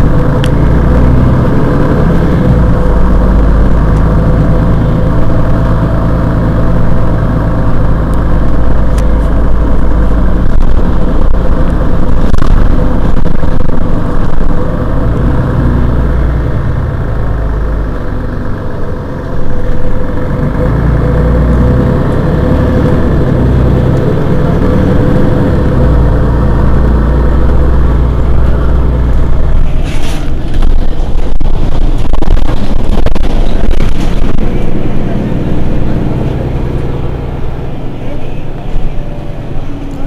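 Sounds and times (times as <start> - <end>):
bus diesel engine idling: 0.0 - 40.0.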